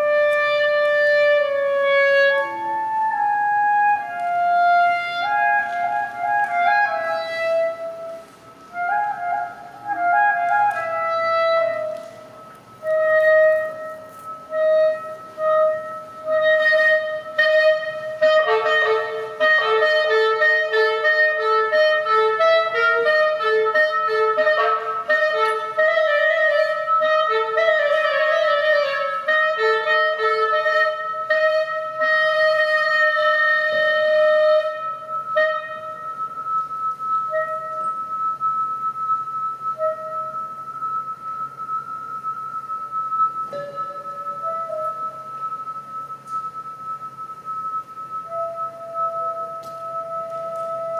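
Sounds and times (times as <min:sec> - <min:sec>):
clarinet improvising: 0:00.0 - 0:50.9
lower clarinet line: 0:00.0 - 0:50.9.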